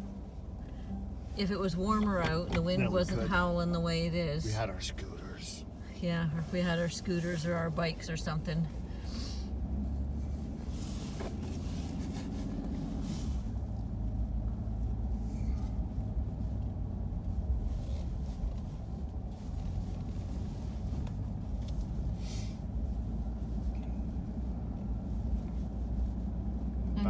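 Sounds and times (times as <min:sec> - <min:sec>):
vehicle driving low rumble: 0:00.0 - 0:27.0.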